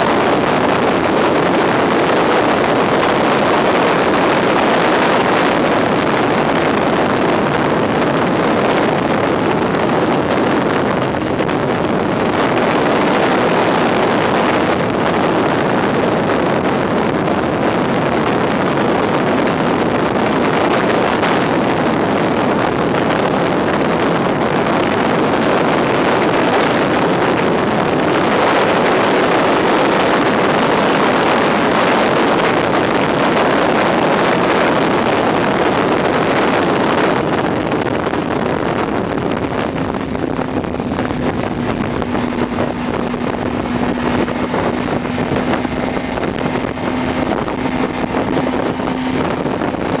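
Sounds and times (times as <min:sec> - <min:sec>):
motorcycle engine hum: 0:00.0 - 0:50.0
wind rushing over microphone: 0:00.0 - 0:50.0.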